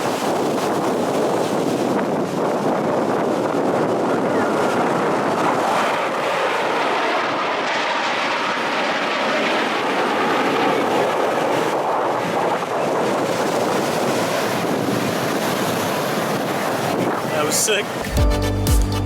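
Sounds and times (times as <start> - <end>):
jet flying past: 0.0 - 18.2.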